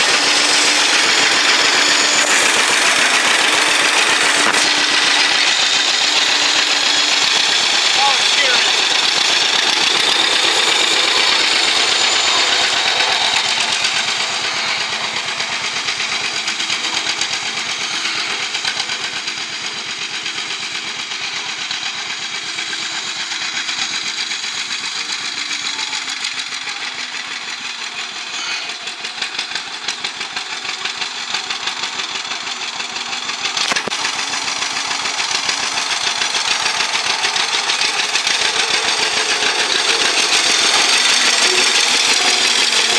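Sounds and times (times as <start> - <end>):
tractor engine exhaust pulses: 0.0 - 42.9.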